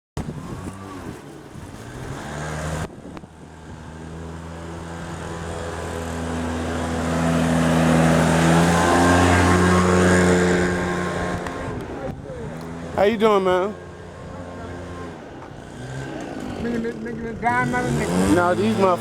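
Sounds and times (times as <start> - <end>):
leaf blower engine running: 0.2 - 19.0.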